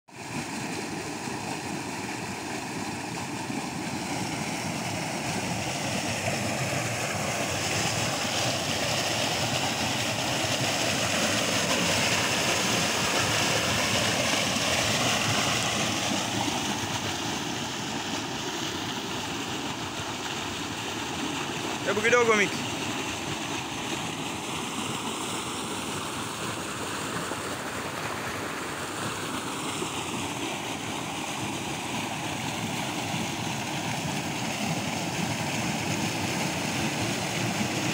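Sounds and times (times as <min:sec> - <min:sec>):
water gushing and rushing: 0:00.1 - 0:37.9.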